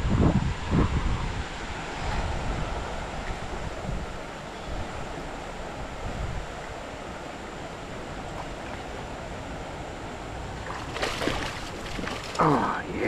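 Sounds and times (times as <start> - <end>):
stream rushing over riffles: 0.1 - 13.0.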